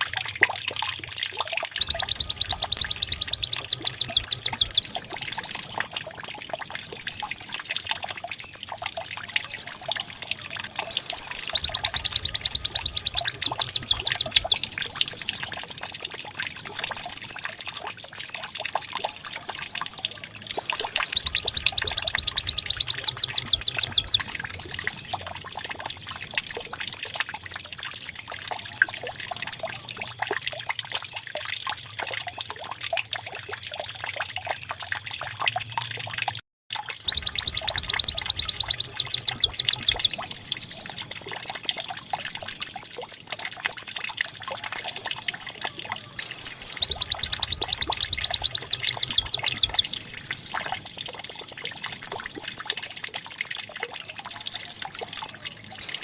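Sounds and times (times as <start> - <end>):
bird singing fast trills: 1.8 - 29.7, 37.1 - 56.0
soft bird twittering: 1.8 - 29.7, 37.1 - 56.0.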